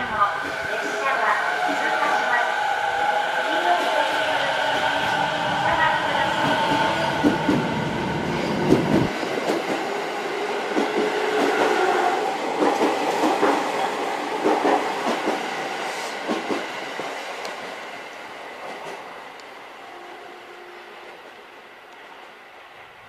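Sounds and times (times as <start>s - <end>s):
train whine: 0.0s - 23.0s.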